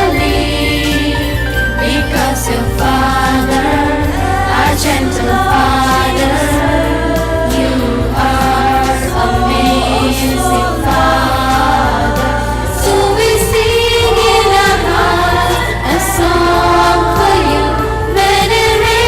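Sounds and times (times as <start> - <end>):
choir singing a hymn: 0.0 - 19.0
deep bass: 0.0 - 19.0.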